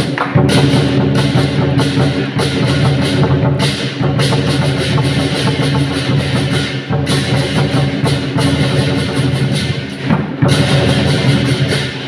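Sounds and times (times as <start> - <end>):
cymbal clashes: 0.0 - 12.0
drum gongs and cymbals beat: 0.0 - 12.0.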